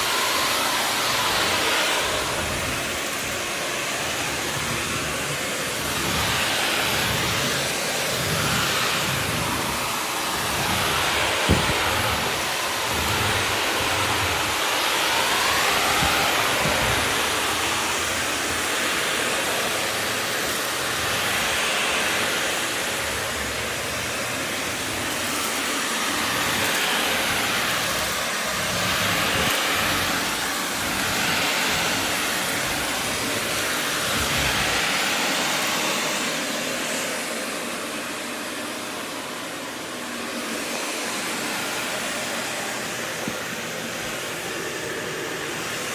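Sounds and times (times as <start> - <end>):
upright vacuum cleaner running: 0.0 - 45.9.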